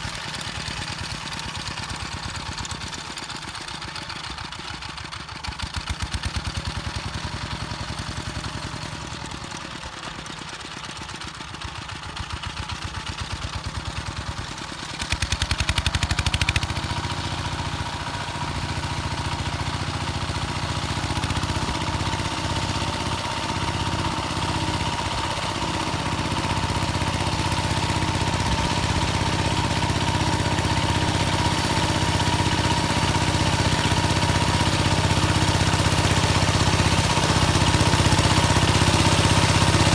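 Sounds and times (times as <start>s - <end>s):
small engine idling and revving: 0.0s - 39.9s.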